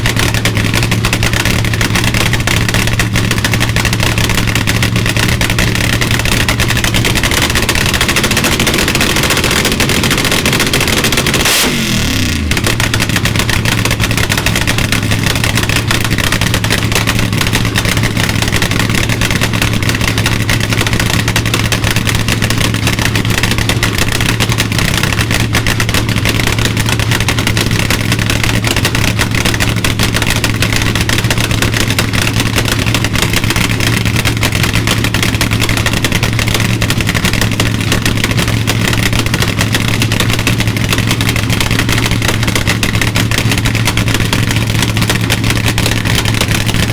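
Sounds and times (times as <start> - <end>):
engine idling loudly: 0.0 - 46.9.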